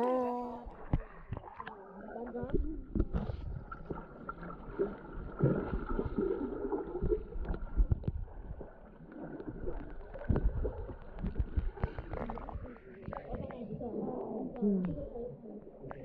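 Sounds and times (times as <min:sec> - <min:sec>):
water gurgling underwater: 0:00.0 - 0:16.0.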